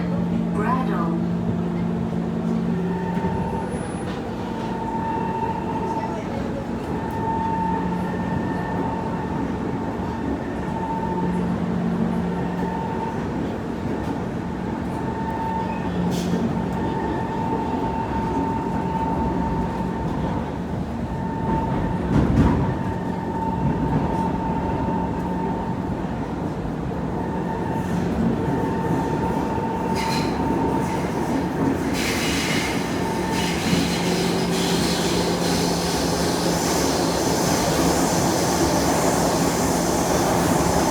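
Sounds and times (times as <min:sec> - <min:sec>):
electric train whine and hum: 0:00.0 - 0:40.9.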